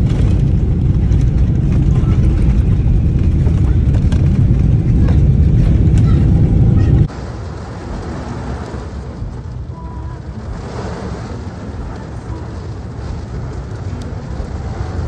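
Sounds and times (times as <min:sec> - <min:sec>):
airliner cabin rumble: 0:00.0 - 0:15.0
car interior noise in rain: 0:00.0 - 0:15.0.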